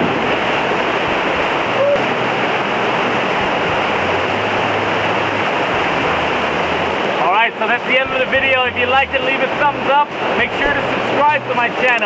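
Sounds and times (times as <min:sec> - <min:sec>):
waterfall rushing into pool: 0:00.0 - 0:12.0.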